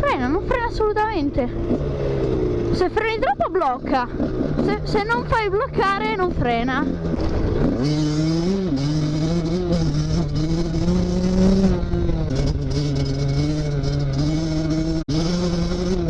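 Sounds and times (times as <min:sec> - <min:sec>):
two-stroke engine running: 0:00.0 - 0:16.0.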